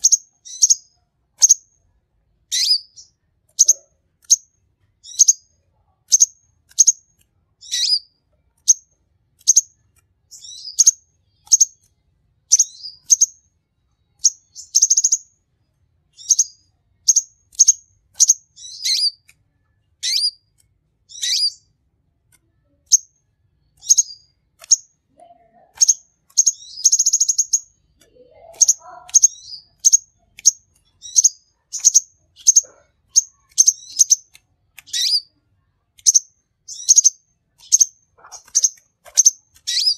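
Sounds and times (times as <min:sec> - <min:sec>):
sunbird chirping and twittering: 0:00.0 - 0:15.5, 0:16.1 - 0:21.8, 0:22.5 - 0:39.9.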